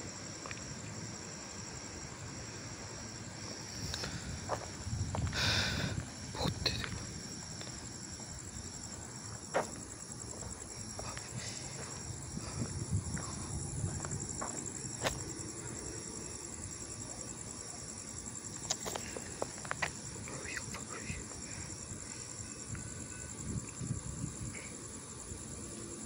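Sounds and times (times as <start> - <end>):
high insect buzz: 0.0 - 26.0
pulsing insect trill: 0.0 - 26.0.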